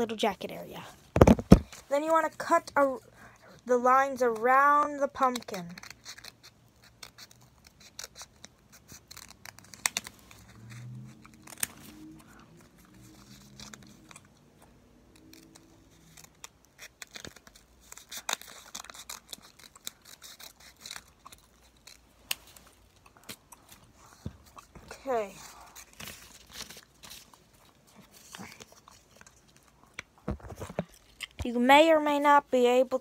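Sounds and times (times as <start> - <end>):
scissors snipping paper: 3.6 - 30.1.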